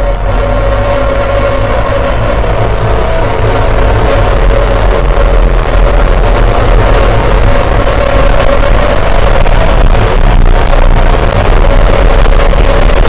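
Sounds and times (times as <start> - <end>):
deep low rumble: 0.0 - 13.0
distorted noise music: 0.0 - 13.0.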